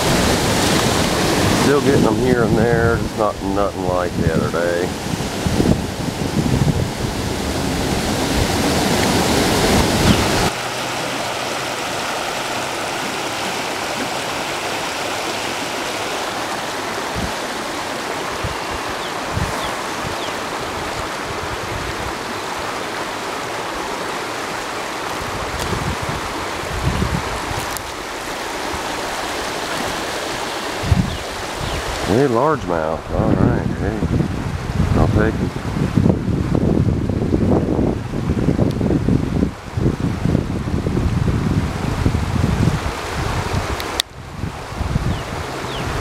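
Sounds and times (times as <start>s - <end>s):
waterfall rushing: 0.0s - 36.1s, 37.0s - 46.0s.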